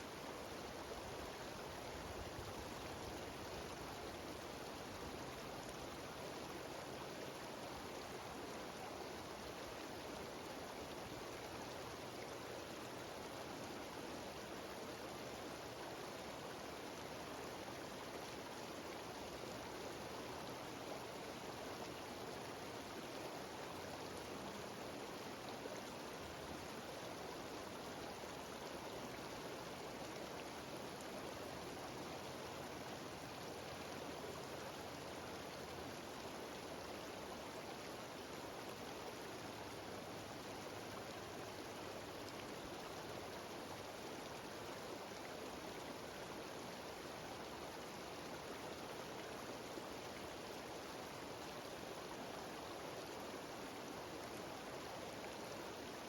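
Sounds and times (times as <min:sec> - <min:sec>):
stream rushing down waterfall: 0:00.0 - 0:56.0.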